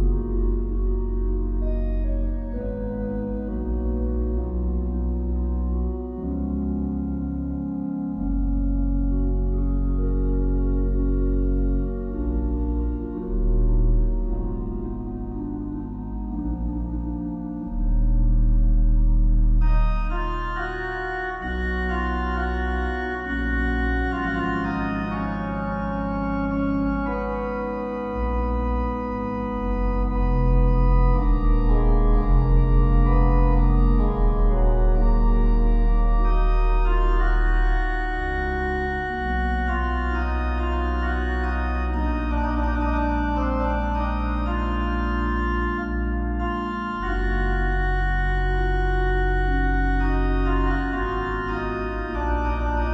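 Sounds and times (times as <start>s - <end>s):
slow organ music: 0.0s - 52.9s.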